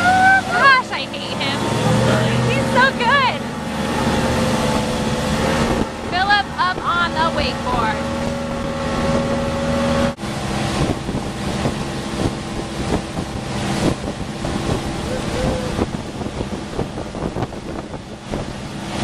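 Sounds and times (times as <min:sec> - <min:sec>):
outboard motor running: 0:00.0 - 0:19.0
rushing boat wake: 0:00.0 - 0:19.0
wind buffeting microphone: 0:00.0 - 0:19.0.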